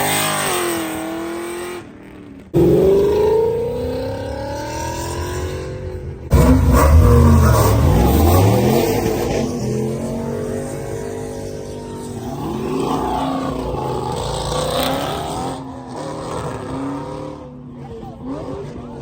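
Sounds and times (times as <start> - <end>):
car accelerating away: 0.0 - 19.0.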